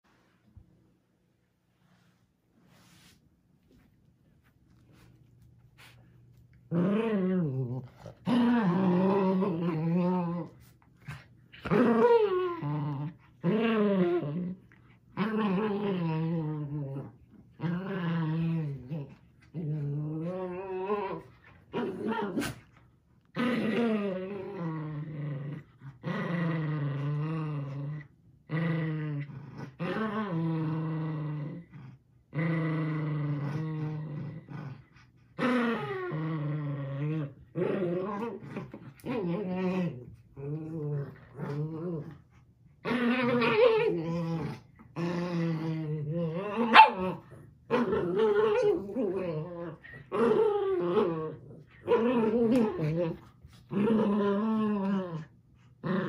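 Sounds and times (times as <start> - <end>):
small dogs play-growling: 3.0 - 56.0.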